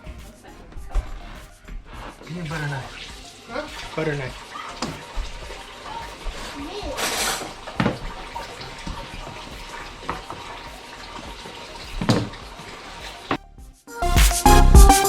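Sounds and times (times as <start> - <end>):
water running from a tap: 0.0 - 13.3.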